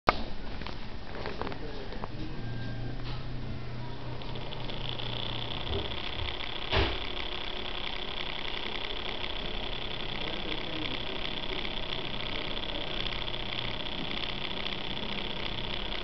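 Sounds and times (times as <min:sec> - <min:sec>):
small electric motors whirring: 0:01.3 - 0:16.0.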